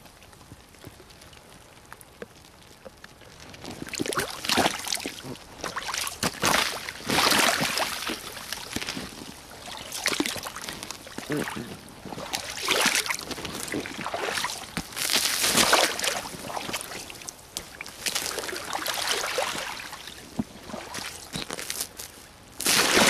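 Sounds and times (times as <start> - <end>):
boots splashing through slush: 3.6 - 23.0.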